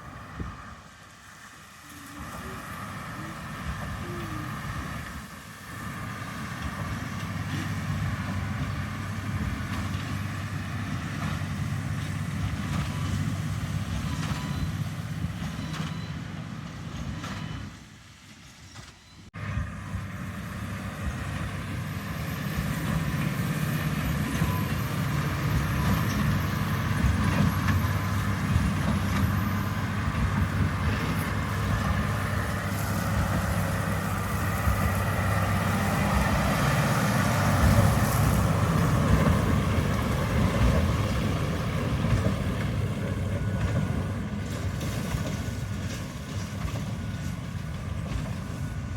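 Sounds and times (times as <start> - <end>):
heavy vehicle engine running: 0.0 - 48.9.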